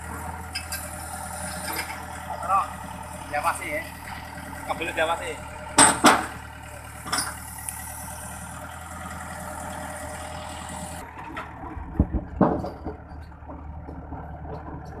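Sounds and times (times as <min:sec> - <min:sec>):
heavy vehicle engine idling: 0:00.0 - 0:15.0.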